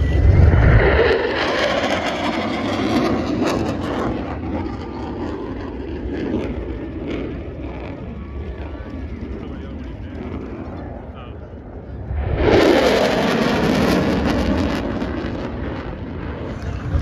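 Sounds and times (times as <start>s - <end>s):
jet taking off roar: 0.0s - 17.0s.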